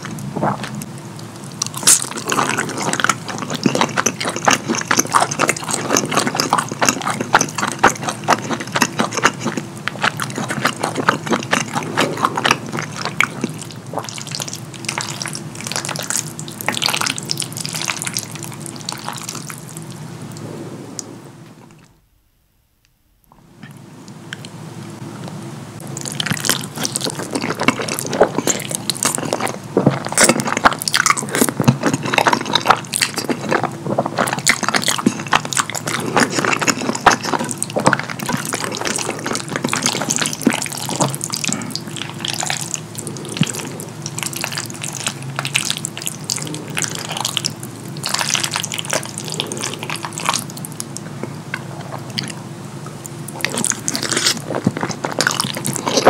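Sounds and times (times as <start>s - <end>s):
chewing and slurping: 0.0s - 20.5s, 25.2s - 56.0s.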